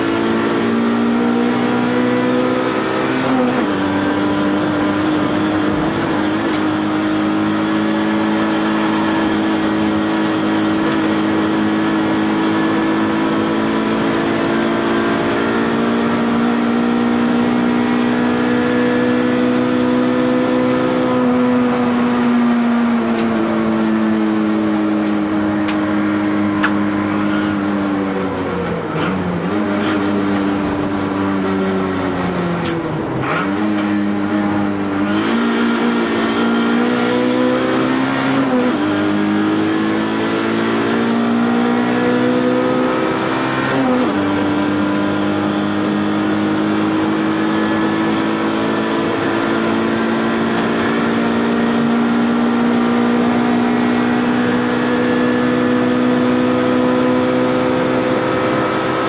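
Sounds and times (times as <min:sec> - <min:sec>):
car engine revving in cabin: 0:00.0 - 0:59.0.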